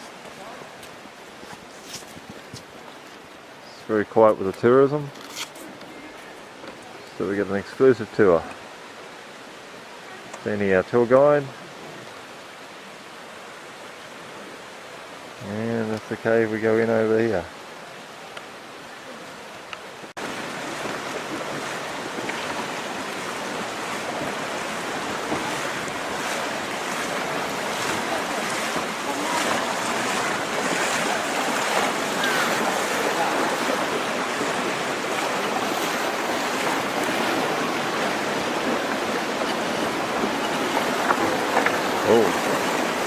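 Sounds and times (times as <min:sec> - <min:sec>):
flowing water: 0:00.0 - 0:43.0.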